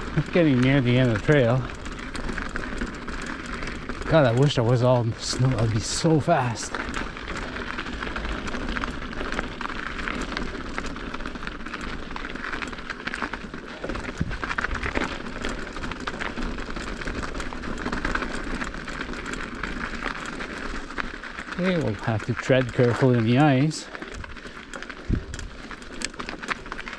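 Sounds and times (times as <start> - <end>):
bike rattling over bumps: 0.0 - 26.9
bike tyres crunching on snow: 0.0 - 26.9.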